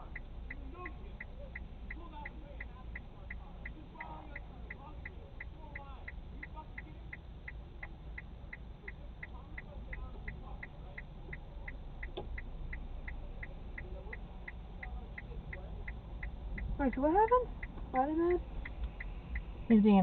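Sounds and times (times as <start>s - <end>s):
car indicator ticking: 0.0s - 20.0s
engine idle hum: 0.0s - 20.0s.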